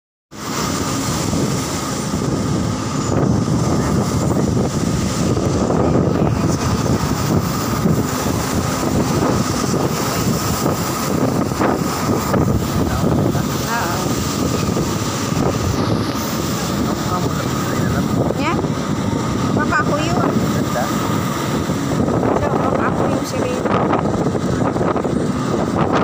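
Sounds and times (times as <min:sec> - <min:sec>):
vehicle engine and road noise: 0:00.3 - 0:26.0
wind noise: 0:00.4 - 0:26.0.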